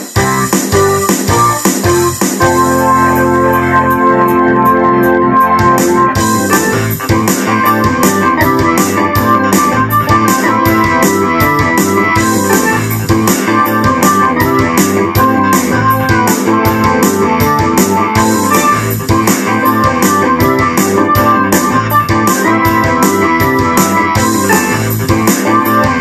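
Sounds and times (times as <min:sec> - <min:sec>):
synthesizer keyboard playing rock: 0:00.0 - 0:26.0
ticking beat: 0:00.0 - 0:26.0.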